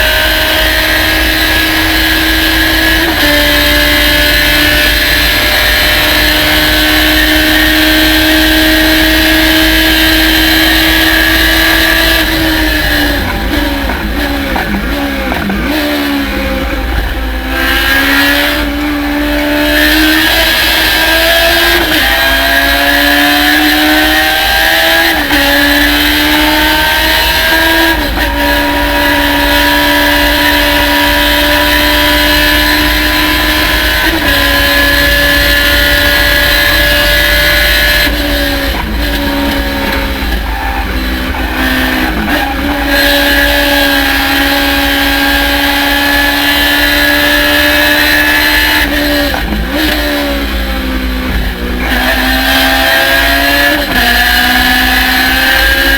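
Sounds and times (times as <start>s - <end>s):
race car engine revving: 0.0s - 55.9s.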